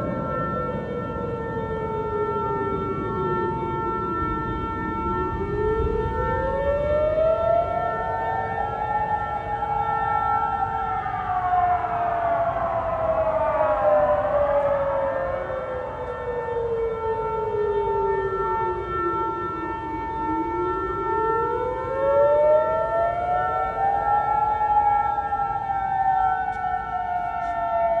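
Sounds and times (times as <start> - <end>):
air raid sirens wailing: 0.0 - 28.0
sirens holding steady tones: 0.0 - 28.0.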